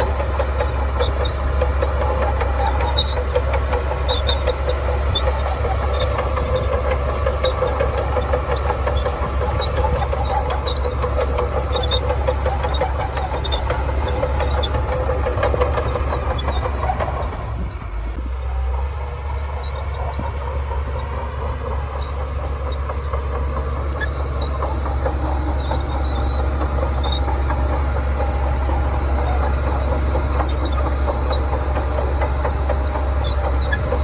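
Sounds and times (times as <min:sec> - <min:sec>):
bulldozer diesel engine: 0:00.0 - 0:34.0
steel tracks clanking and squeaking: 0:00.0 - 0:34.0.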